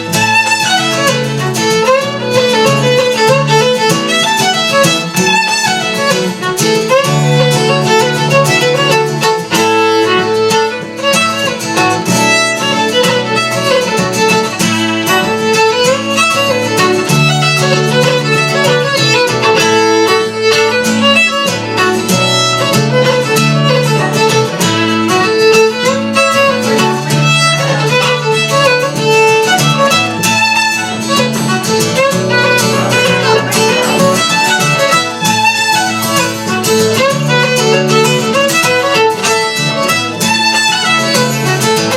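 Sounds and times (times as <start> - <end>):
fiddle playing a tune: 0.0 - 41.9
guitar accompaniment: 0.0 - 41.9.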